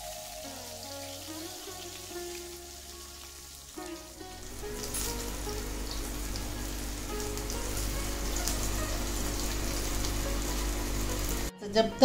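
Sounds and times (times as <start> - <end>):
vegetables sizzling in hot oil: 0.0 - 11.5.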